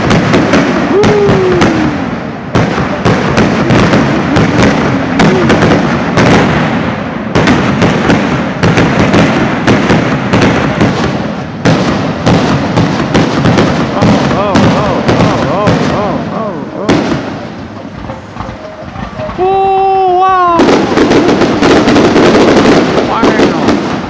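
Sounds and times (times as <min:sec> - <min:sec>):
fireworks bangs and pops: 0:00.0 - 0:24.0.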